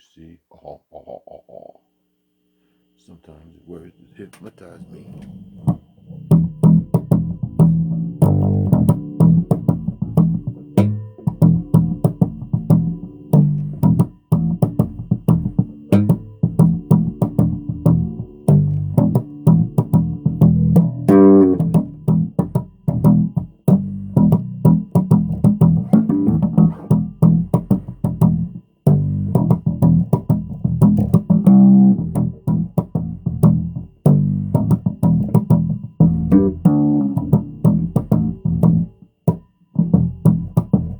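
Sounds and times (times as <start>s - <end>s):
bass guitar plucked notes: 5.2s - 40.9s.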